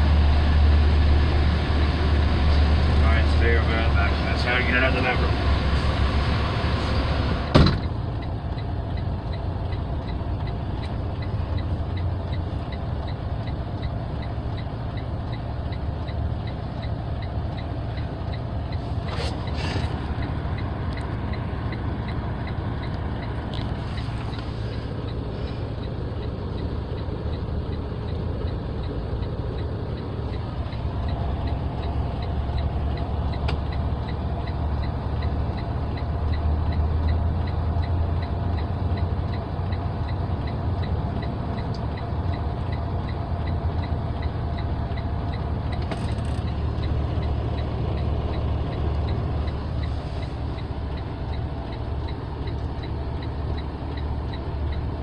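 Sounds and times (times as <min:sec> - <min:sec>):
diesel engine idling: 0:00.0 - 0:55.0
faint regular ticking: 0:08.0 - 0:19.1, 0:20.0 - 0:55.0.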